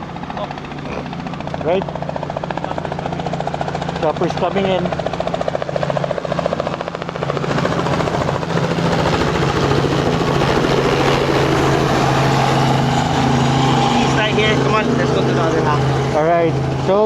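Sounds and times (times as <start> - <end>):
helicopter rotor beat: 0.0 - 17.0
low engine drone: 0.0 - 17.0.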